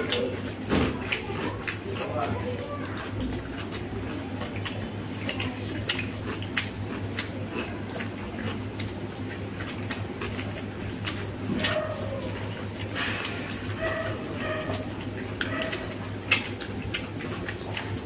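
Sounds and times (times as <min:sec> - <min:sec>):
fingers squelching rice: 0:00.0 - 0:18.0
mouths chewing and smacking: 0:00.0 - 0:18.0.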